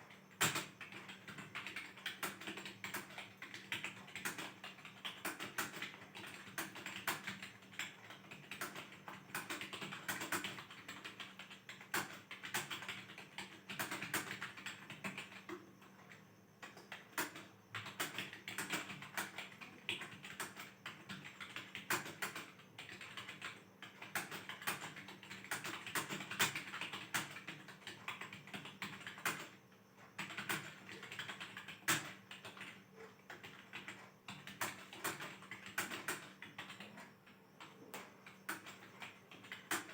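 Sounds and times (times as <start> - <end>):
faint steady hum: 0.0 - 39.9
typing on a computer keyboard: 0.0 - 39.9.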